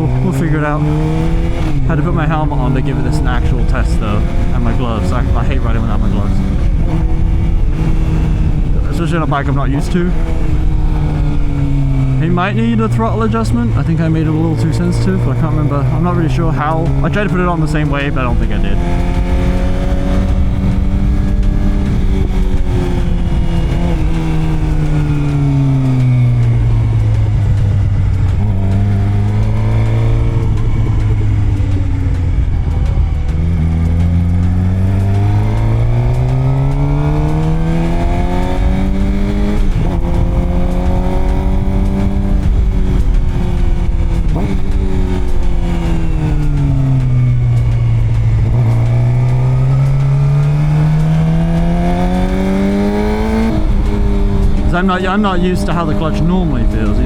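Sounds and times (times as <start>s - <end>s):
wind rushing over microphone: 0.0s - 14.5s, 16.7s - 49.8s
motorcycle engine: 0.0s - 57.0s.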